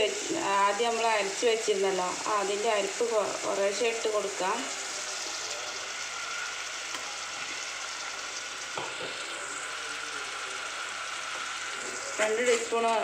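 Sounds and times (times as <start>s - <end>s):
greens sizzling in oil: 0.0s - 13.0s.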